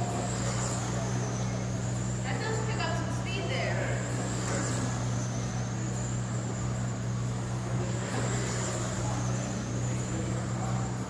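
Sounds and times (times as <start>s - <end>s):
electric toy car motors whining: 0.0s - 11.0s
steady low hum: 0.0s - 11.0s.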